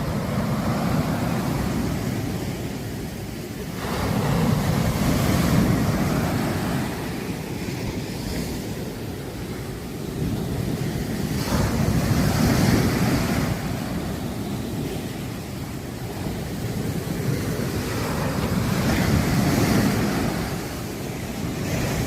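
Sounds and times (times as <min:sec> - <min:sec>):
sea waves breaking on beach: 0:00.0 - 0:22.0.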